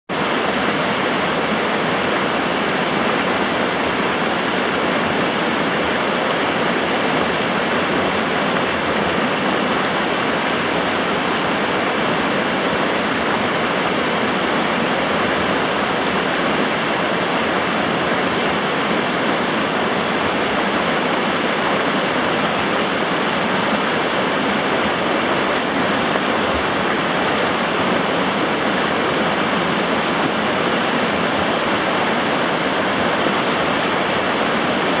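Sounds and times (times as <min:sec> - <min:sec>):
river rushing: 0:00.1 - 0:35.0.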